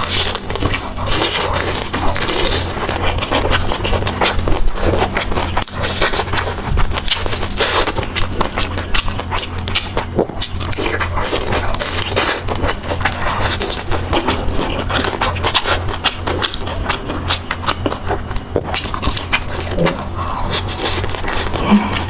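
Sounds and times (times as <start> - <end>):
chewing crispy food: 0.0 - 22.0
low hum: 0.0 - 22.0.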